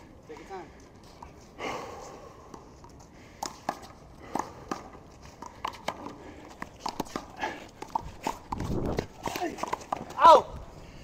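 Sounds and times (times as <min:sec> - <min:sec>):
players' footsteps: 0:00.0 - 0:10.7.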